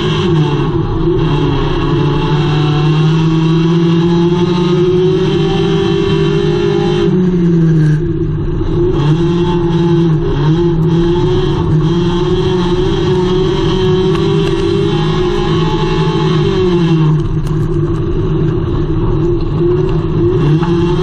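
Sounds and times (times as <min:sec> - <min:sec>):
race car engine running hard: 0:00.0 - 0:21.0.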